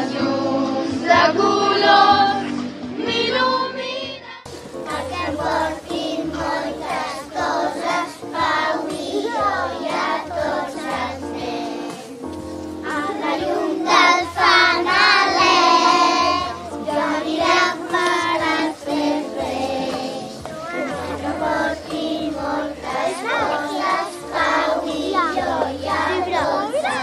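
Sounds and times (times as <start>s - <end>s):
children singing: 0.0s - 12.2s, 12.8s - 27.0s
instrumental accompaniment: 4.5s - 27.0s.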